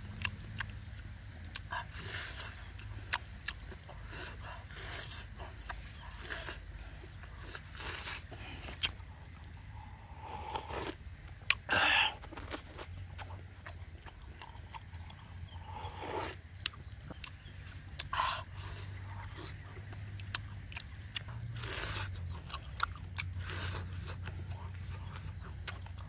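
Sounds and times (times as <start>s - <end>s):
close-up chewing and lip-smacking: 0.0s - 26.0s.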